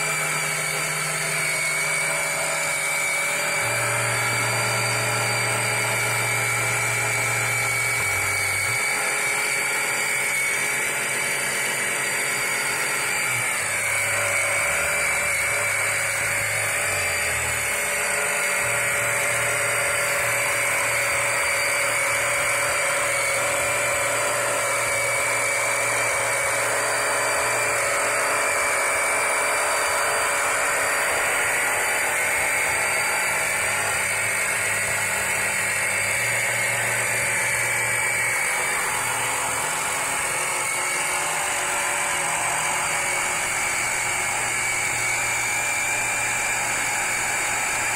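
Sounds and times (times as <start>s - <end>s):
electric pump motor whining: 0.0s - 47.9s.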